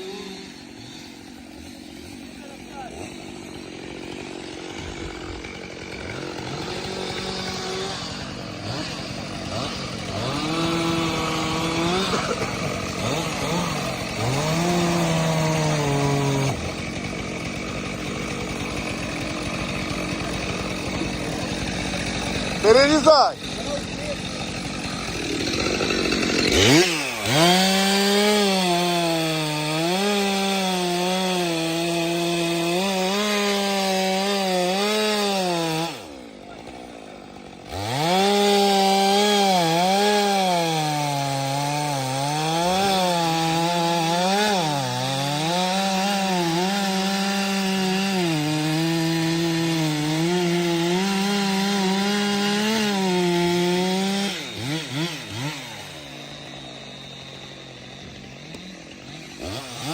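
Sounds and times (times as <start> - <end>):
chainsaw cutting firewood: 0.0 - 59.9.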